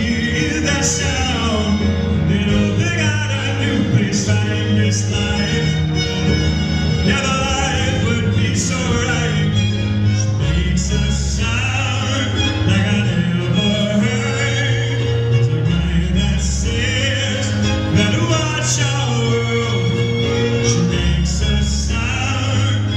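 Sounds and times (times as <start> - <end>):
man singing: 0.0 - 22.9
sustained strings: 0.0 - 22.9.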